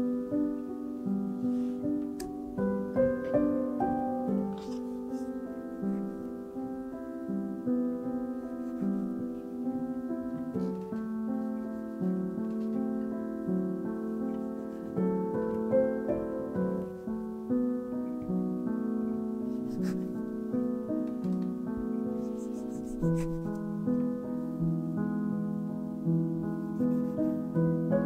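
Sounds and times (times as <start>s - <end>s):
background piano music: 0.0s - 28.0s.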